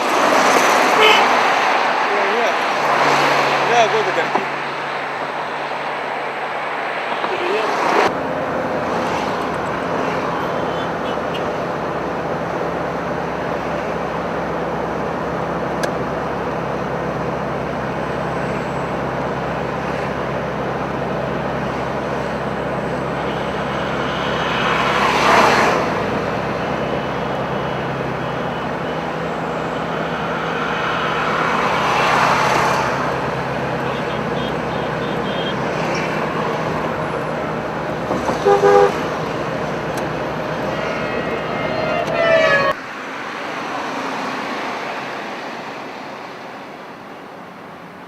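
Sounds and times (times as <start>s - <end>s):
vehicle passing: 0.0s - 46.6s
road traffic noise: 0.0s - 48.0s.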